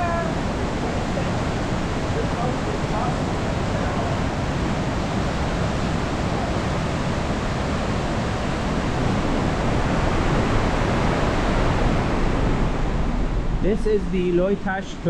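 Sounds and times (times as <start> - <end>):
waterfall and river rushing: 0.0 - 13.6.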